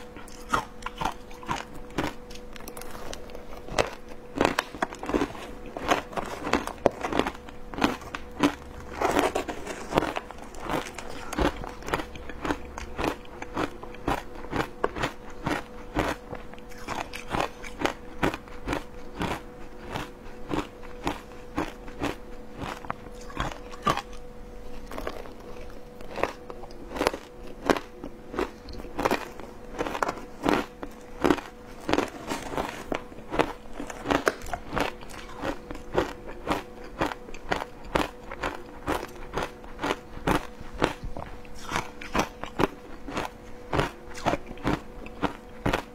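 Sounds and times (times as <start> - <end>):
faint steady hum: 0.0 - 45.9
person chewing crunchy ice: 0.0 - 45.9.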